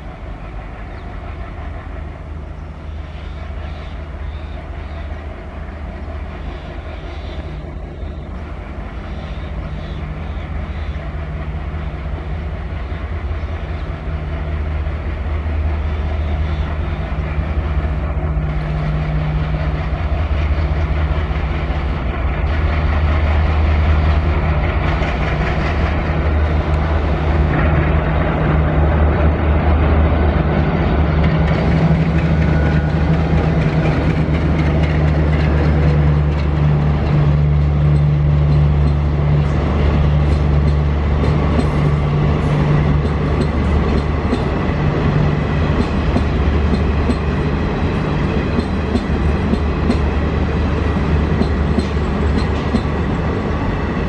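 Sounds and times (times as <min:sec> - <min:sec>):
diesel locomotive engine drone: 0:00.0 - 0:54.0
train wheels clickety-clack: 0:09.6 - 0:54.0.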